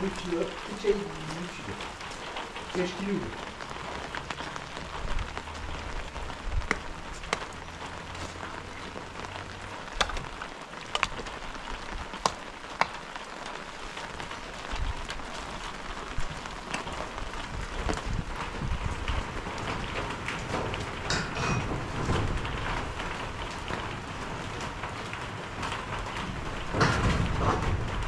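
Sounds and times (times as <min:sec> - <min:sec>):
sharp raindrop impacts: 0:00.0 - 0:28.0
steady rain falling: 0:00.0 - 0:28.0.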